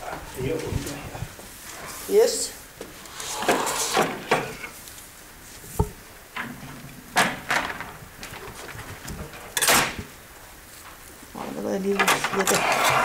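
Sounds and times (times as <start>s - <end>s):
willow rods rustling and clattering: 0.0s - 13.0s.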